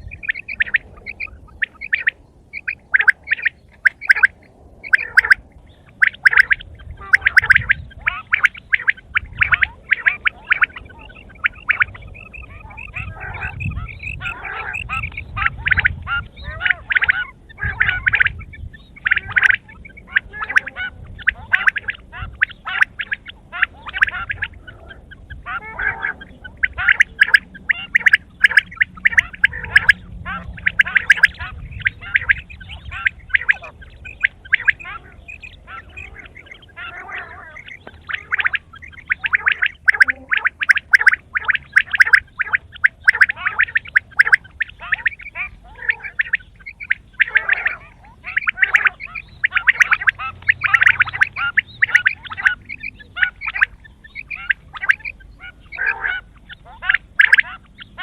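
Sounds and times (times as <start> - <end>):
quail calling rapid notes: 0.0 - 58.0.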